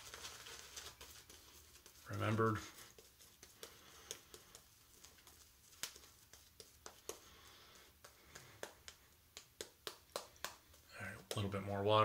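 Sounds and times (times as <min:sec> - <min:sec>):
shaving brush wet squishes: 0:00.8 - 0:12.0.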